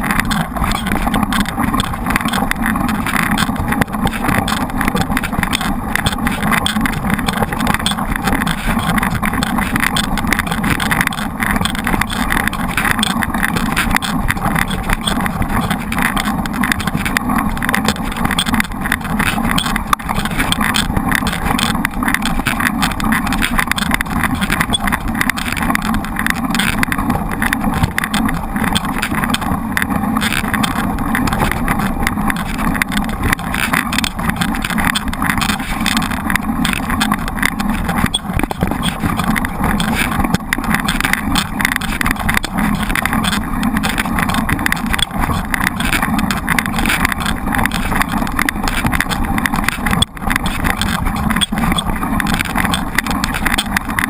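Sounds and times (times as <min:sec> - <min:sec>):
wind and riding noise: 0:00.0 - 0:54.0.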